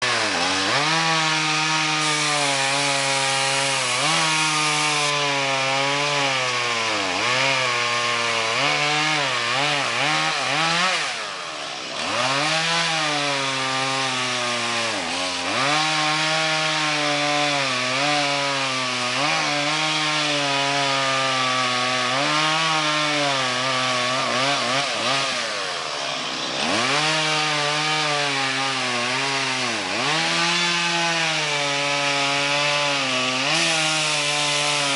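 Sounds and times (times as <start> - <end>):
chainsaw cutting into tree: 0.0 - 34.9.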